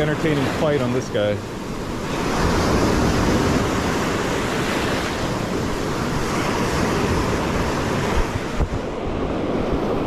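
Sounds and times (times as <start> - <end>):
ocean surf breaking: 0.0 - 10.0
wind buffeting microphone: 1.6 - 10.0.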